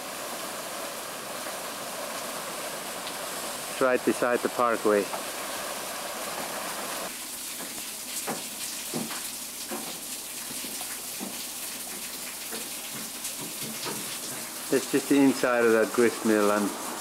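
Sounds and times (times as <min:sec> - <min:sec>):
water rushing off a waterwheel: 0:00.0 - 0:17.0.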